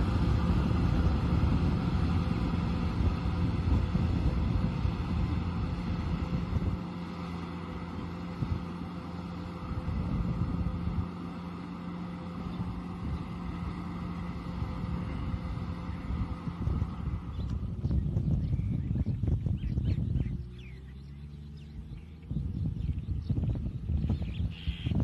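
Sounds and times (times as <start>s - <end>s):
tractor diesel engine humming: 0.0s - 25.0s
wind buffeting microphone: 0.0s - 25.0s.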